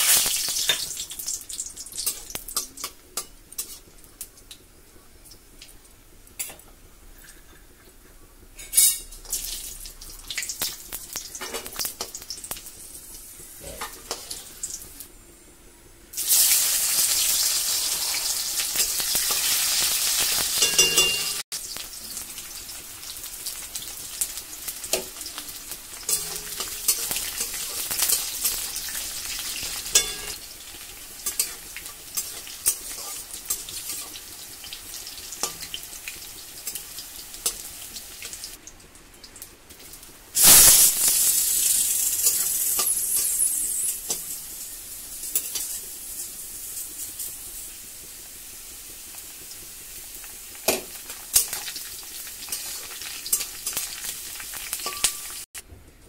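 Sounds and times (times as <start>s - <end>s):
food sizzling in hot oil: 0.0s - 6.6s, 8.6s - 15.3s, 16.1s - 55.6s.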